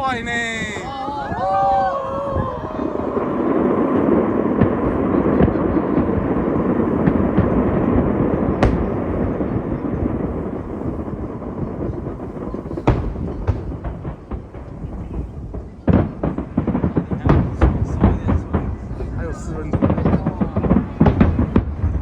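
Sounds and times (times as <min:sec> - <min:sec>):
fireworks crackling and rumbling: 0:00.0 - 0:22.0
sharp firework bangs: 0:00.0 - 0:22.0.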